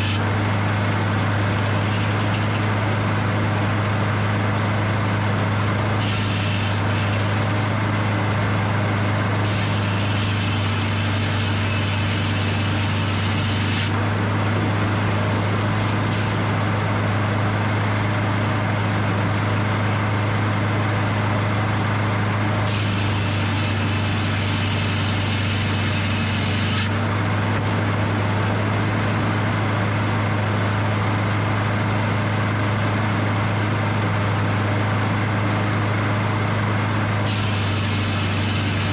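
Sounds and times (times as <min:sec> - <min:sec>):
sawmill engine hum: 0:00.0 - 0:38.9.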